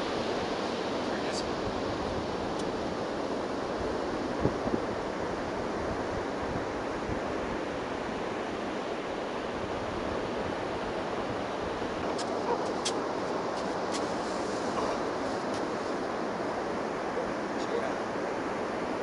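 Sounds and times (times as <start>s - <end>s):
ocean surf: 0.0s - 19.0s
wind: 0.0s - 19.0s.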